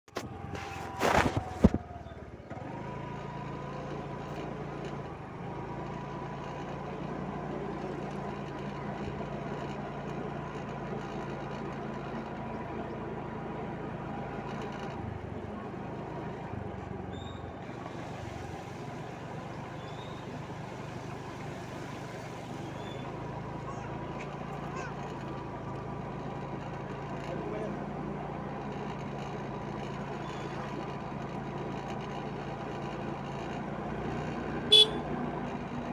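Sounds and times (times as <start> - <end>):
motor scooter engine running: 0.1 - 35.9
road and wind noise: 0.1 - 35.9.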